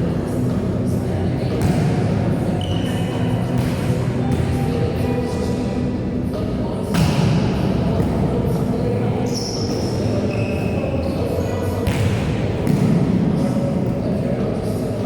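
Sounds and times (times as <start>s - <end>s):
echoing hall voices and movement: 0.0s - 15.0s.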